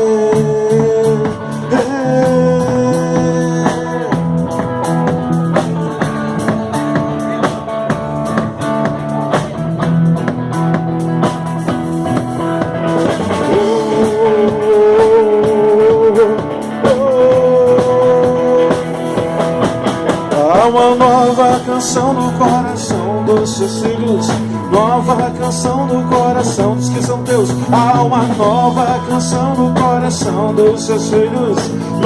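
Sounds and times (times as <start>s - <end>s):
rock instrumental band: 0.0s - 32.0s.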